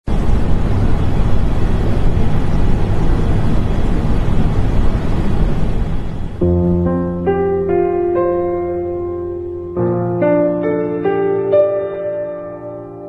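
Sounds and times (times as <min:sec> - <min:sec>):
loud rushing noise with low rumble: 0:00.1 - 0:13.0.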